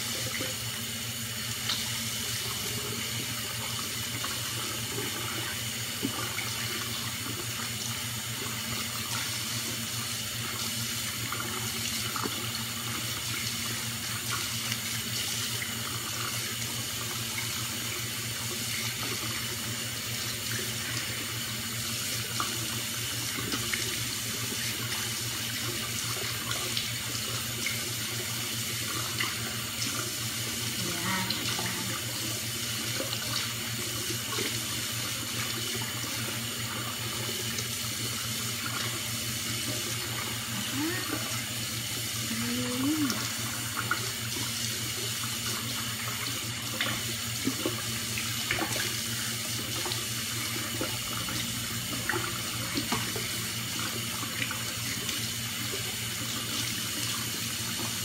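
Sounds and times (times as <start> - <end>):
tap water running: 0.0 - 58.0.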